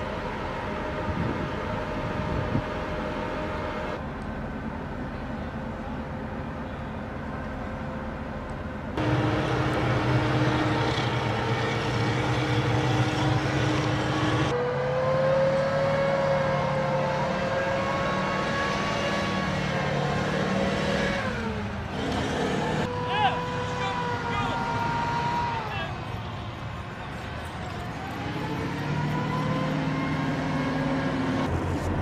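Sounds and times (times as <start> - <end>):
machine engine droning: 0.0 - 32.0.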